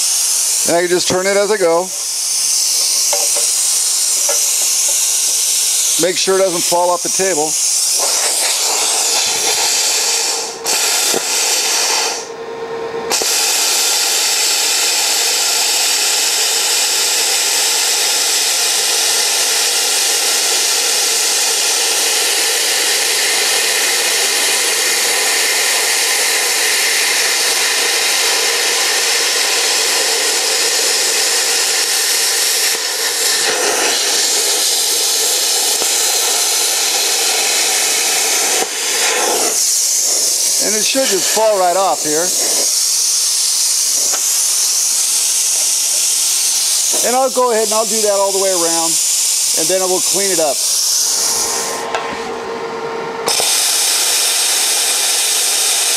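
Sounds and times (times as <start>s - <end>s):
plasma cutter hissing: 0.0s - 12.4s, 13.1s - 52.0s, 53.2s - 55.9s.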